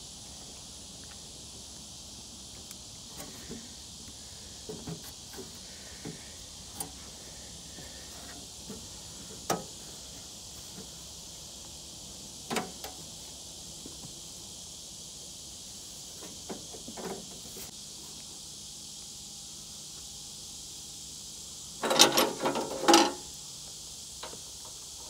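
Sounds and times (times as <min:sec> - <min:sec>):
insect chorus: 0:00.0 - 0:25.0.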